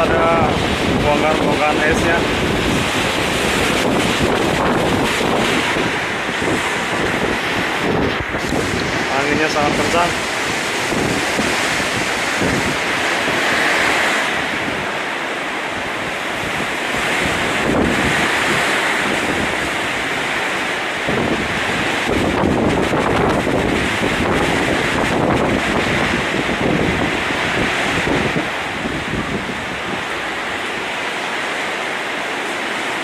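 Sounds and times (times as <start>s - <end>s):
gusting wind: 0.0s - 33.0s
heavy rain: 0.0s - 33.0s
wind buffeting microphone: 0.0s - 33.0s.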